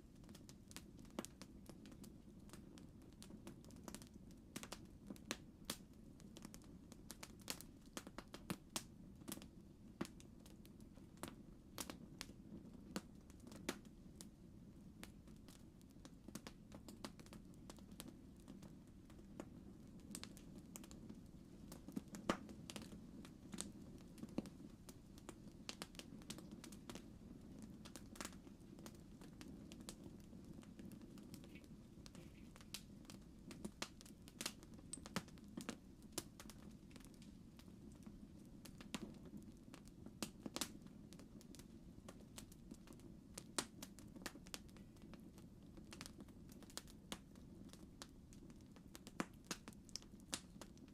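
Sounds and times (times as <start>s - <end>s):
low rumble of burning: 0.0s - 50.9s
campfire snaps and pops: 0.1s - 14.3s, 15.0s - 50.9s.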